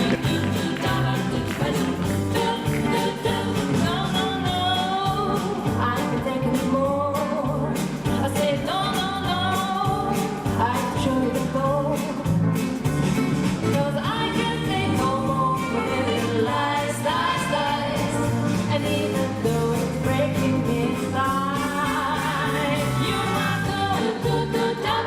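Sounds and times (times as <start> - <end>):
pop song with vocals: 0.0 - 12.8, 13.6 - 25.0.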